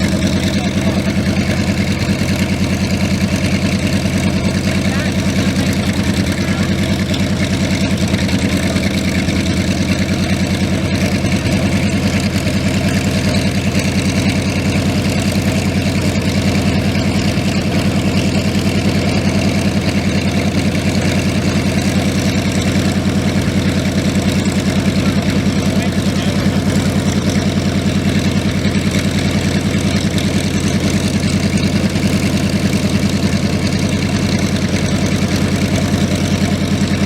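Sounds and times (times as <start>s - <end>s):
radial aircraft engine idling: 0.0s - 37.0s.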